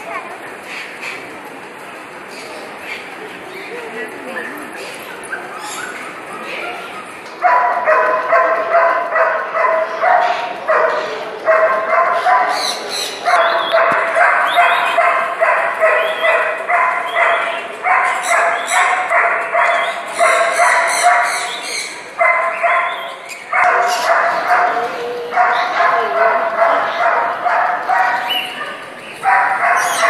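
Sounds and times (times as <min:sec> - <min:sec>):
dog barking: 0:05.4 - 0:30.0.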